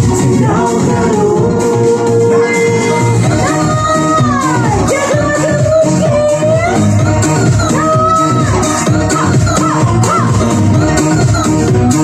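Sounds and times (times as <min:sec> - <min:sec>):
pop song with dance beat: 0:00.0 - 0:12.0.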